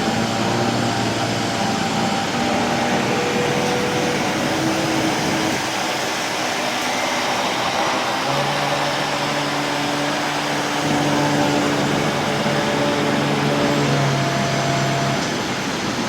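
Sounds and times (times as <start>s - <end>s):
vacuum cleaner running on rug: 0.0s - 16.0s.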